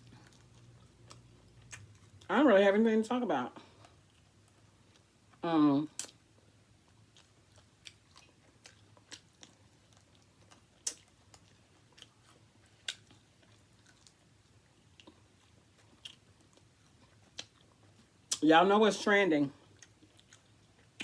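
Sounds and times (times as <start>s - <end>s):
person chewing food: 0.0s - 2.3s, 3.6s - 18.4s, 19.6s - 21.0s.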